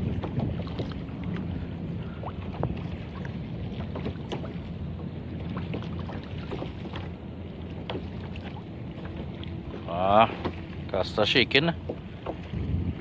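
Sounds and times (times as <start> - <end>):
small splashes and knocks: 0.0 - 1.6, 2.2 - 4.7, 5.3 - 11.0, 11.7 - 12.6
water slapping against kayak hull: 0.0 - 13.0
wind rumble on microphone: 0.0 - 13.0.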